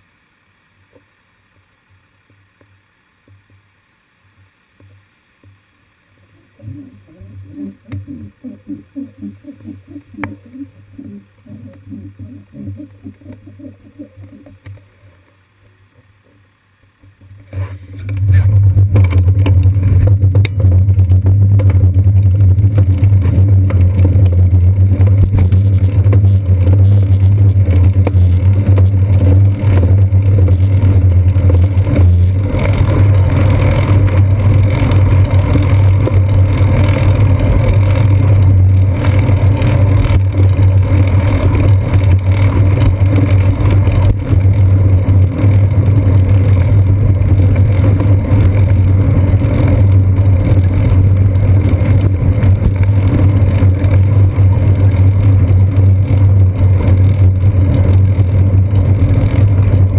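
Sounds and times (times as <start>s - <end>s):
wind: 0.0s - 59.9s
bicycle rumble on paved road: 1.4s - 59.9s.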